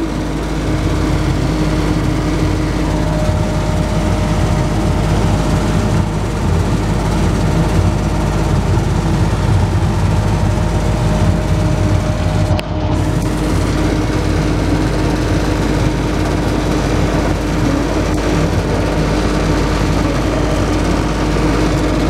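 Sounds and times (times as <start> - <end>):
small train engine droning: 0.0 - 22.0
thin steady whine: 0.0 - 22.0.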